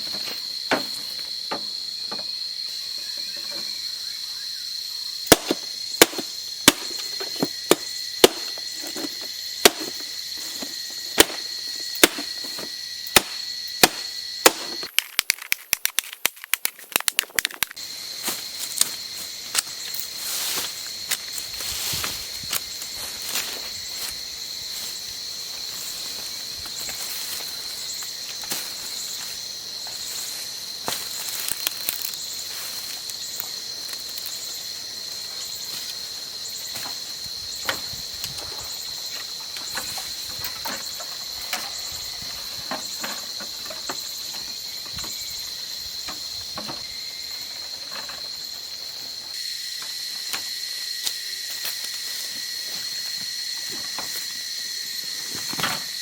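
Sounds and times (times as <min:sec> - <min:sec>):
insects droning high: 0:00.0 - 0:56.0.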